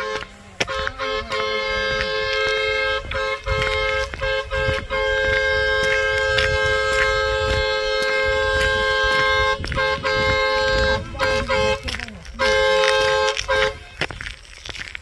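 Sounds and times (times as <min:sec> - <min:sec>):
vehicle horn blasts: 0:00.0 - 0:14.0.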